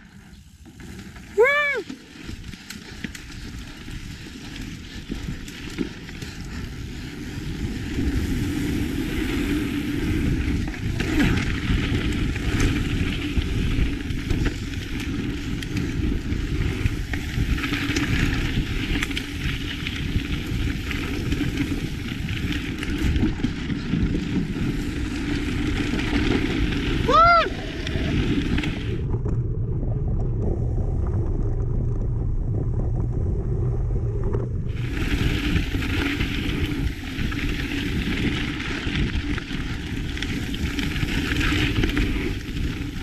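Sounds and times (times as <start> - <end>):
bike tyres crunching on dirt: 0.0 - 29.6, 34.6 - 43.0
bike rattling over bumps: 0.0 - 43.0
wind on microphone: 1.3 - 43.0.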